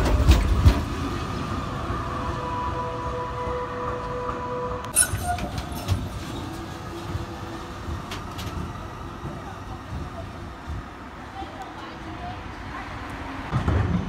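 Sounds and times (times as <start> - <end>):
tram wheels clicking on track: 0.0 - 1.7, 4.3 - 14.0
tram whine: 0.0 - 13.5.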